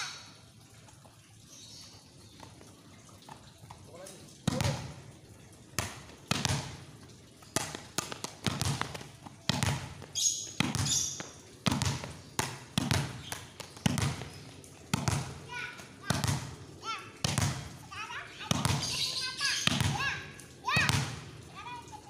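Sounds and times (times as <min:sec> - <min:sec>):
volleyball slapping on concrete: 0:03.2 - 0:21.4.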